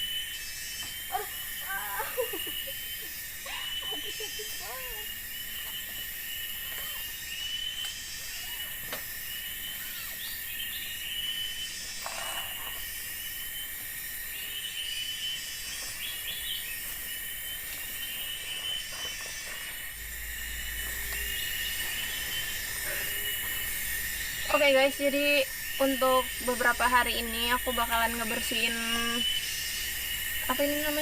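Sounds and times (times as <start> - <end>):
insect chirping calls: 0.0 - 31.0
insect drone: 0.0 - 31.0.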